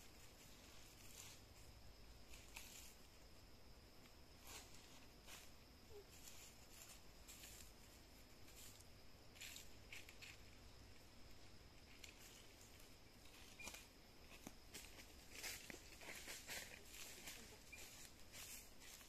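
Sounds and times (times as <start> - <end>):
dry leaves crackling: 0.4 - 3.2, 4.4 - 11.1, 11.9 - 19.0.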